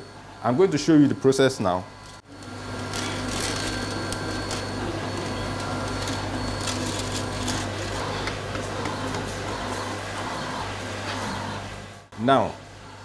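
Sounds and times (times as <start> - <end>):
three d printer humming: 0.0 - 13.0.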